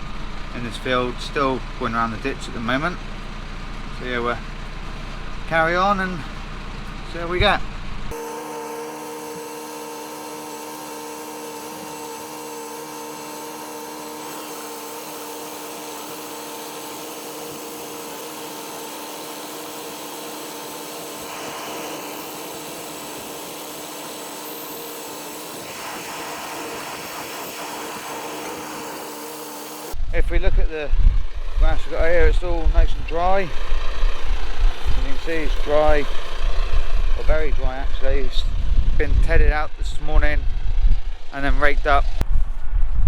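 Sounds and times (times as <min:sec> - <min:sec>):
tractor running while baling: 0:00.0 - 0:42.6.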